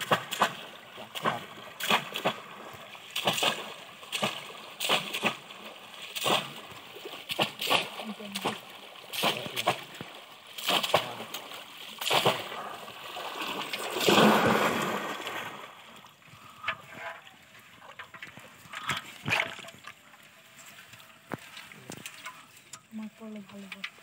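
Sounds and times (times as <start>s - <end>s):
splashing in shallow muddy water: 0.0s - 24.0s.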